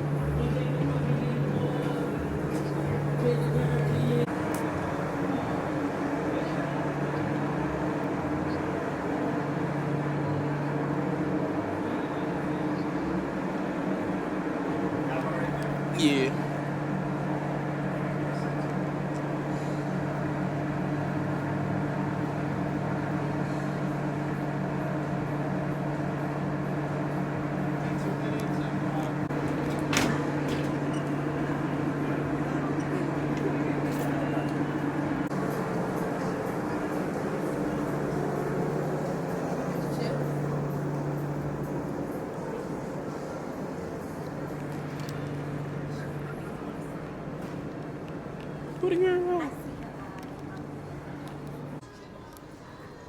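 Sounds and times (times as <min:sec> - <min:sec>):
constant low hum: 0:00.0 - 0:53.0
store interior drone: 0:00.0 - 0:53.0.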